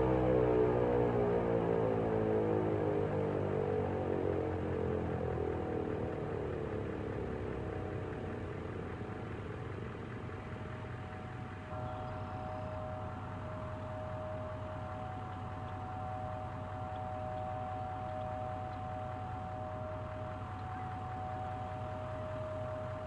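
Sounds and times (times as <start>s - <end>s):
faint steady tone: 0.0s - 23.0s
warning siren winding down: 0.0s - 23.0s.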